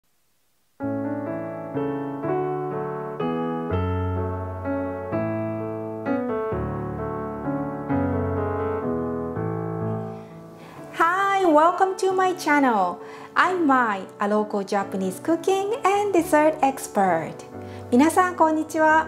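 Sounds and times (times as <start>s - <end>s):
gentle piano music: 0.8s - 19.0s.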